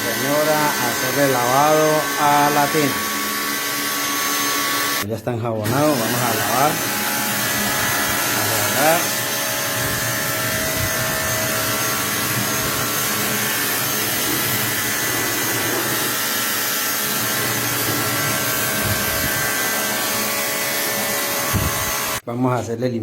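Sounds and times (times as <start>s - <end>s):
electric motor hiss and whine: 0.0s - 5.0s, 5.7s - 22.2s.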